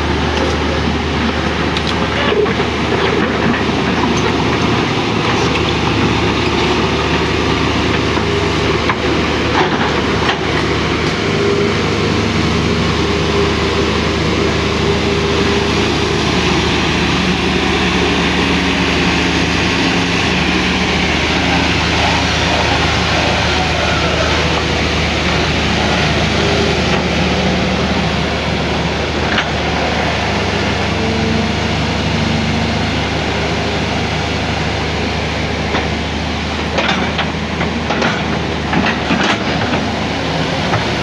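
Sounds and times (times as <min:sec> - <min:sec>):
excavator diesel engine droning: 0:00.0 - 0:41.0.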